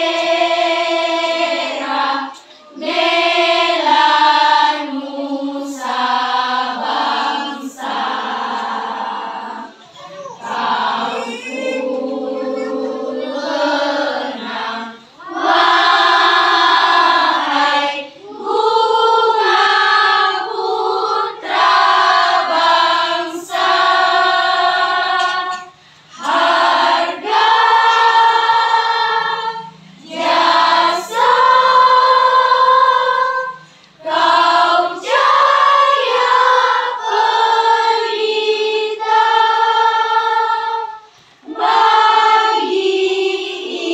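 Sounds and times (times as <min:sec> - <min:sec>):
choir singing: 0:00.0 - 0:09.8, 0:10.4 - 0:43.9.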